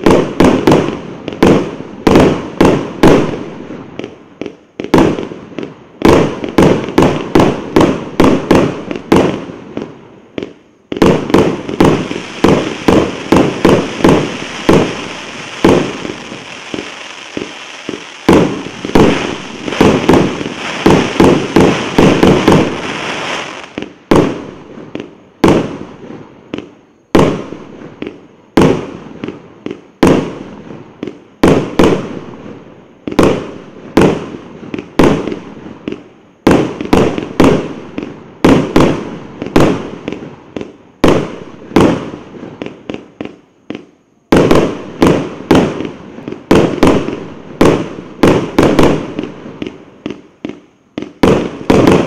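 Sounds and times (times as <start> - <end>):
firework bangs: 0.0 - 52.0
firework crackling hiss: 0.0 - 52.0.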